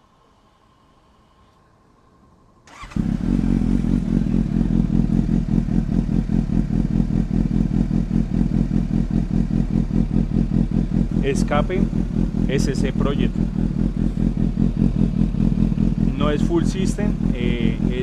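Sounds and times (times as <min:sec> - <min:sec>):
motorcycle engine starting and idling: 0:02.7 - 0:18.0.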